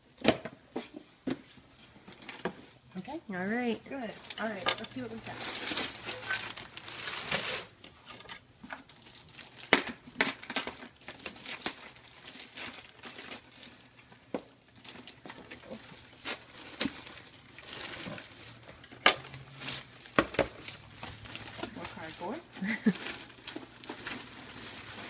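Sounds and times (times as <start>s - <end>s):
plastic and paper crinkling: 1.8s - 2.8s, 3.4s - 25.0s.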